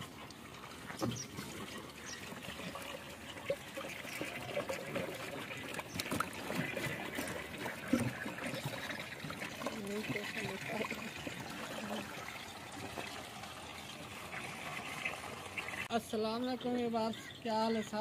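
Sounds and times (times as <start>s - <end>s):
water pouring into tank: 0.0s - 15.9s.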